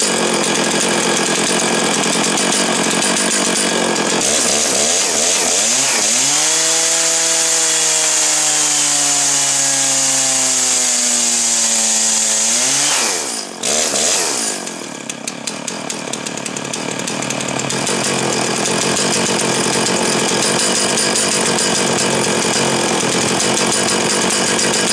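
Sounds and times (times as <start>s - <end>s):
chainsaw revving and idling: 0.0s - 24.9s.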